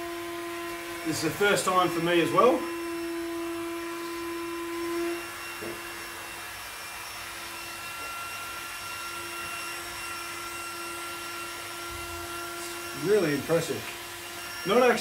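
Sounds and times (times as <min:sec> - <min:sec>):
air pump humming: 0:00.0 - 0:15.0.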